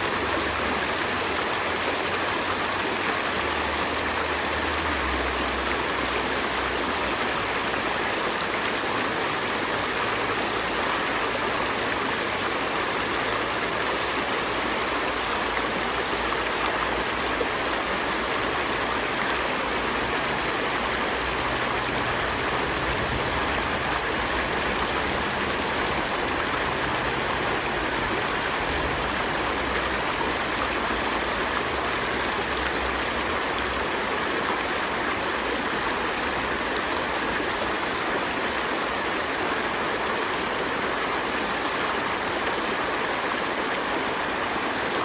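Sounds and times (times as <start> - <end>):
stream flowing: 0.0 - 45.0.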